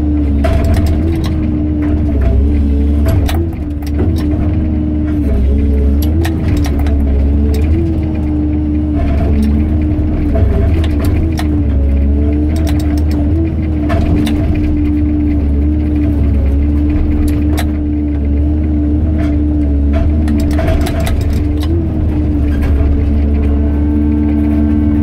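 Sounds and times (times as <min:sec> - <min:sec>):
excavator engine droning: 0:00.0 - 0:25.0.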